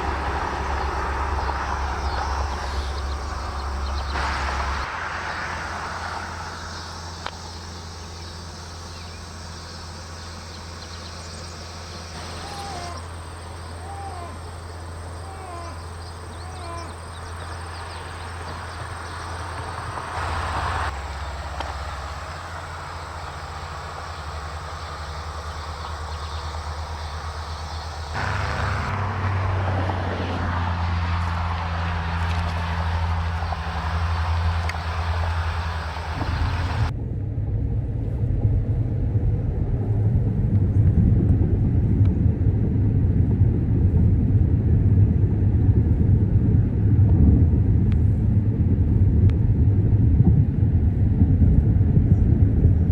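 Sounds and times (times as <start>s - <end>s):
road and wind noise: 0.0s - 52.9s
vehicle running hum: 0.0s - 52.9s.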